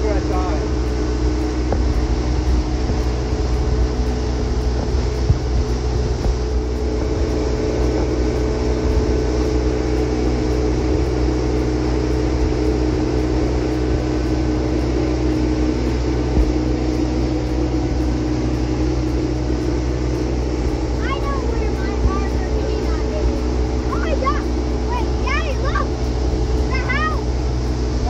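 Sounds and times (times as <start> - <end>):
motorboat engine drone: 0.0 - 28.0
rush of wind and water: 0.0 - 28.0.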